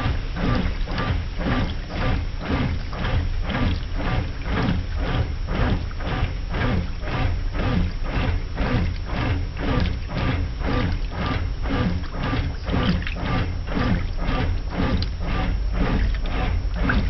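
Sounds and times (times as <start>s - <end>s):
motor humming: 0.0s - 17.0s
water sloshing in washing machine: 0.0s - 17.0s.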